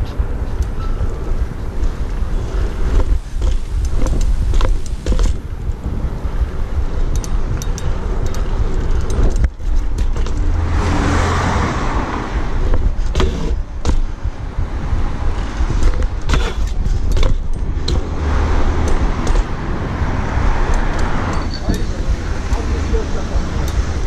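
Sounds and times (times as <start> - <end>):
bike clicks and rattles: 0.0 - 24.0
bike tyre rumble: 0.0 - 24.0
cars passing: 0.0 - 24.0.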